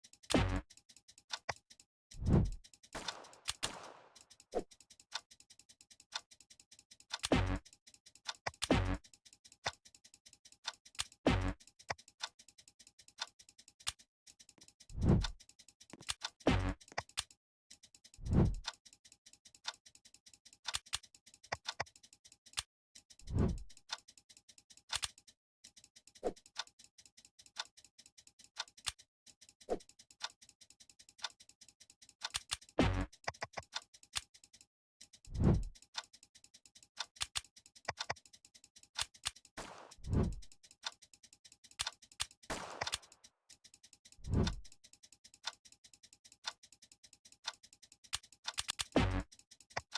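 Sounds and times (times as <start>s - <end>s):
clicking and ticking: 0.0s - 49.9s.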